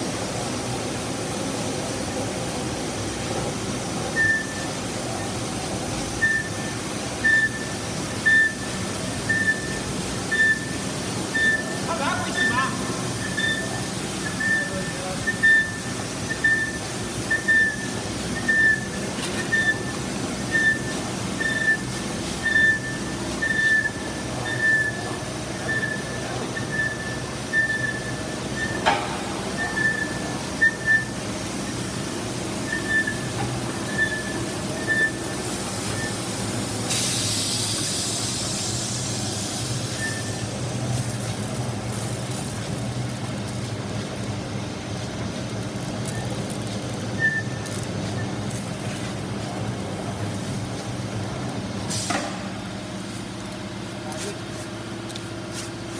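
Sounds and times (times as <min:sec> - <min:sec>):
hiss: 0:00.0 - 0:43.6, 0:51.8 - 0:55.9.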